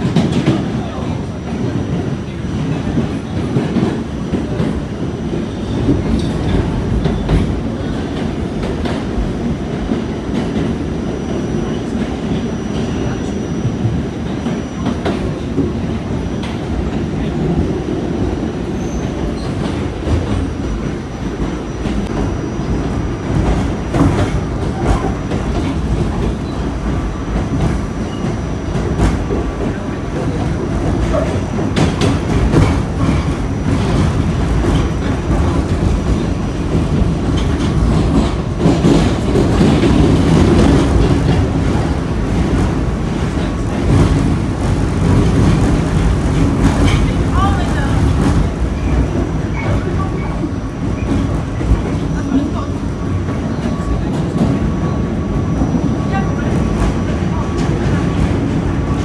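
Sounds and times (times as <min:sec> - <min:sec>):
subway train wheels rumbling on rail: 0:00.0 - 0:59.0.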